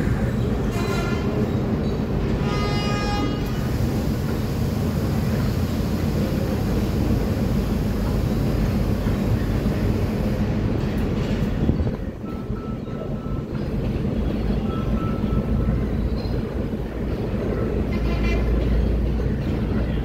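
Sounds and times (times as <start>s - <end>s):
low diesel drone: 0.0s - 20.0s
train wheels rumbling on rails: 0.0s - 20.0s.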